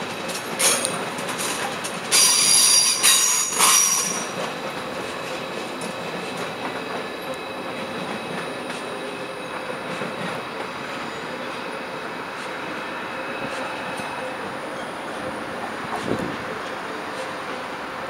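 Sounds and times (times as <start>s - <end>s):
train running noise: 0.0s - 18.0s
steel wheels squealing on rail: 0.4s - 18.0s.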